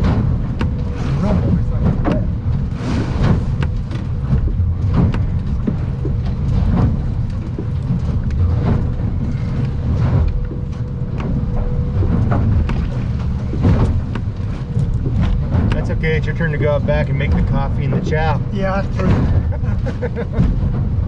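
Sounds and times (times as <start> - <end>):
boat engine rumble: 0.0 - 21.0
hull slapping waves: 0.0 - 21.0.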